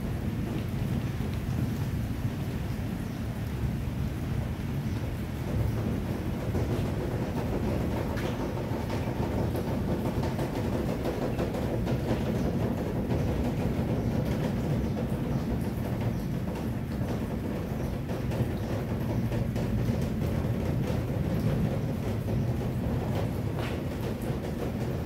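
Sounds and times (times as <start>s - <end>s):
continuous low rumble: 0.0s - 25.0s
rain on pavement: 0.0s - 25.0s.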